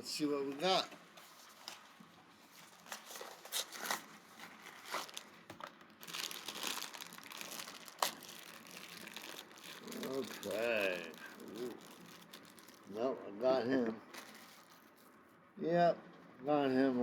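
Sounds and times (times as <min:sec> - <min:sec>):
cardboard and wrapper crinkling: 0:00.6 - 0:13.0, 0:14.0 - 0:15.2.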